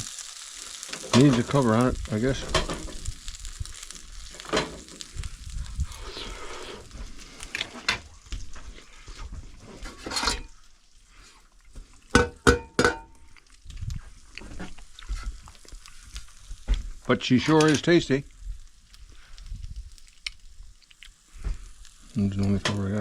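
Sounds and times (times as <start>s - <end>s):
fish frying in a pan: 0.0s - 23.0s.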